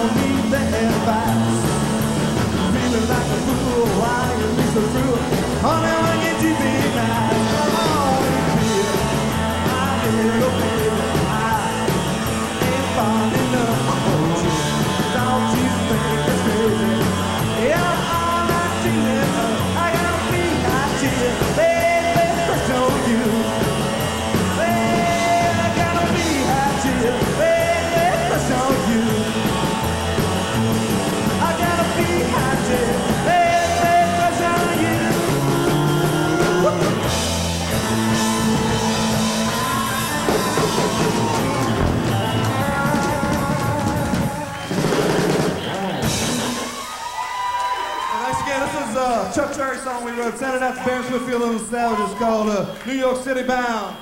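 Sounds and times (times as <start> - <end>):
person singing into a microphone: 0.0 - 2.0, 2.6 - 46.8
upright double bass: 0.0 - 46.8
electric guitar: 0.0 - 48.6
drum kit: 0.0 - 50.4.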